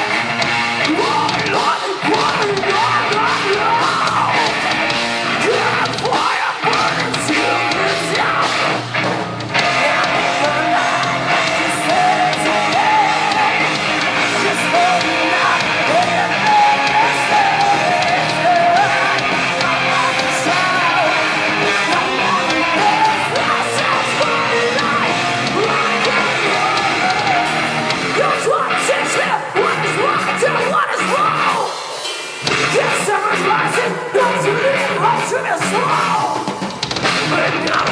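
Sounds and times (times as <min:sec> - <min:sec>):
rock band playing live: 0:00.0 - 0:37.9
person yelling singing: 0:00.8 - 0:08.8, 0:09.6 - 0:31.9, 0:32.6 - 0:36.6, 0:37.2 - 0:37.9.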